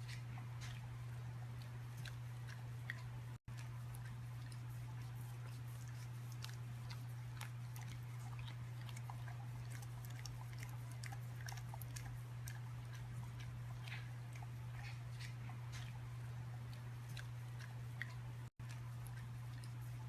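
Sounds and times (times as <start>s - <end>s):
close chewing and crunching: 0.0s - 20.0s
steady low hum: 0.0s - 20.0s.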